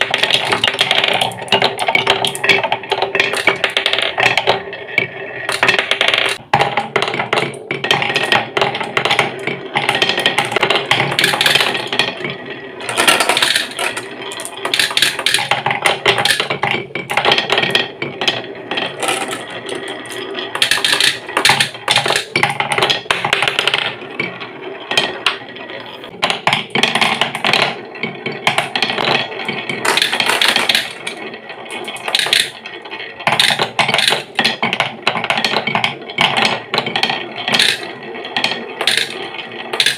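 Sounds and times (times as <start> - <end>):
glass marbles rattling on wood: 0.0 - 39.9.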